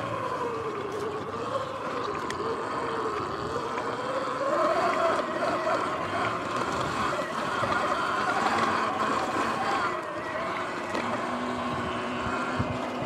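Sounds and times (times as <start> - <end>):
electric dirt bike motor whining: 0.0 - 13.0.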